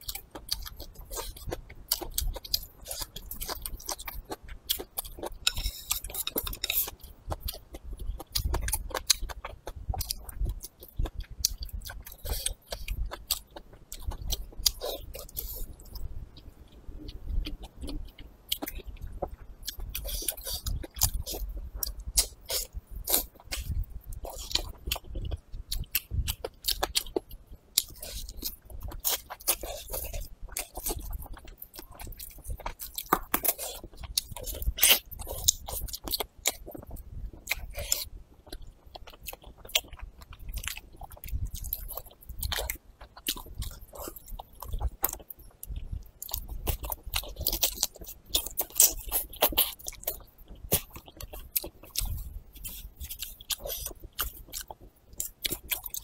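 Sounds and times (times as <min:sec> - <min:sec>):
chewing and biting meat: 0:00.0 - 0:56.0.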